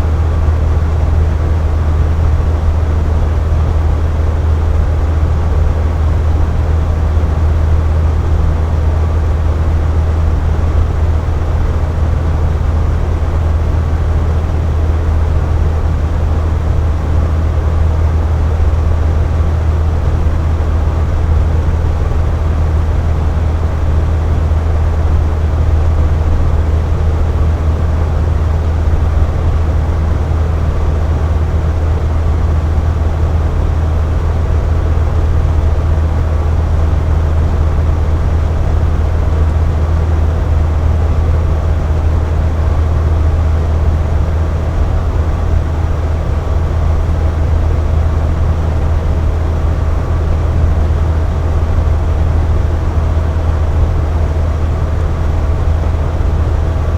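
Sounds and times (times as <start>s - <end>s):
box fan running: 0.0s - 56.9s.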